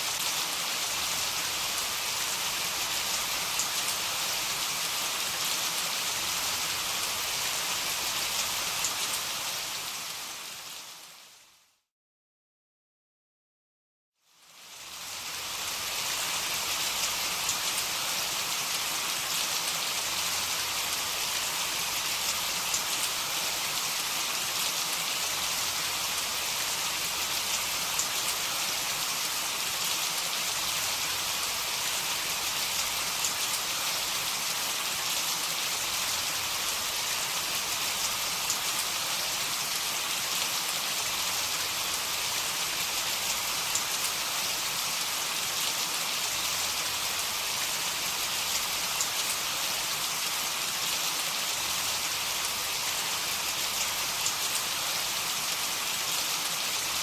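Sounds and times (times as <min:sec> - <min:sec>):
heavy rain falling: 0:00.0 - 0:10.7, 0:15.4 - 0:57.0.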